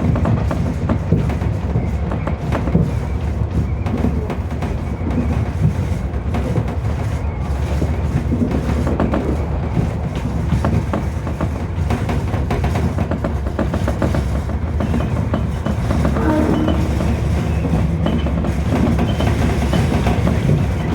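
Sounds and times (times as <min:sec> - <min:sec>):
clacks over rail joints: 0:00.0 - 0:20.9
train wheels rumbling: 0:00.0 - 0:20.9.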